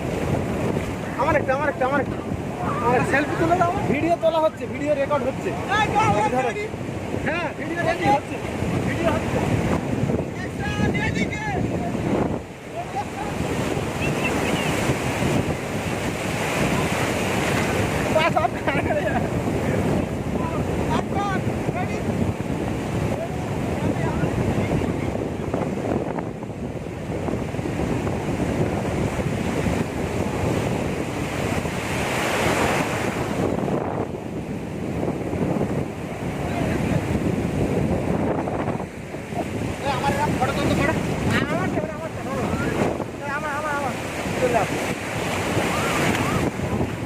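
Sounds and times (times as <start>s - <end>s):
sea surf breaking on beach: 0.0s - 47.0s
wind buffeting microphone: 0.0s - 47.0s.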